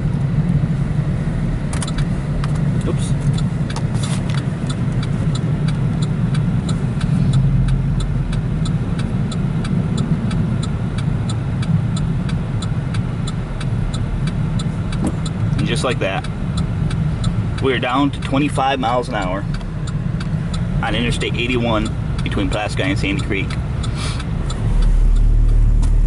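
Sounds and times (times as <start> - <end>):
tyres and engine rumble: 0.0 - 26.0
light even ticking: 1.6 - 26.0.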